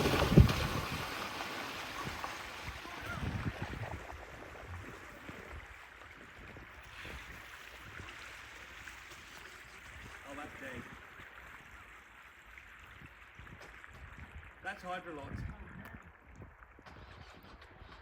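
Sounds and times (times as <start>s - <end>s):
floodwater sloshing and lapping: 0.0s - 14.6s.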